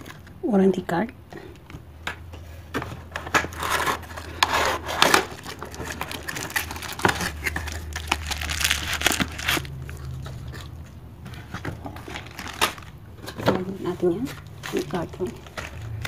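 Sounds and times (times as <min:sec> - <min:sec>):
cardboard and bubble wrap rustling: 0:02.7 - 0:16.0.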